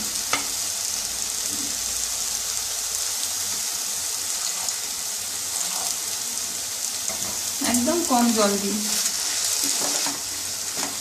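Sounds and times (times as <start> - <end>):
paste sizzling in a frying pan: 0.0 - 11.0.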